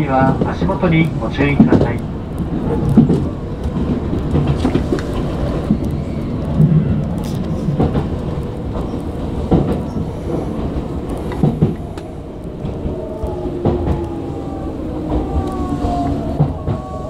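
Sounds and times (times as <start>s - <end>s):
electric train rumbling on rails: 0.0s - 17.0s.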